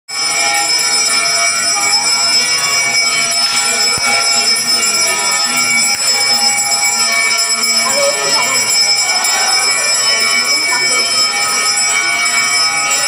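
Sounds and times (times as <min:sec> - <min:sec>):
hand bell ringing: 0:00.1 - 0:13.0.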